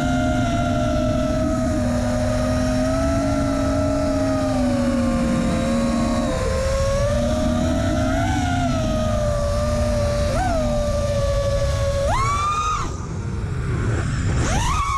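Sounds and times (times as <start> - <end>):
drone motors and propellers whining: 0.0 - 14.9
low wind rumble: 0.0 - 14.9.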